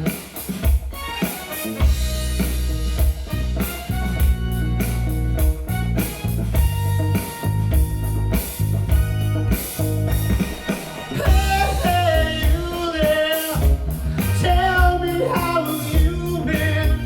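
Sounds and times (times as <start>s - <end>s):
heavy bass: 0.0s - 0.2s, 1.8s - 17.0s
steady drum beat: 0.0s - 17.0s.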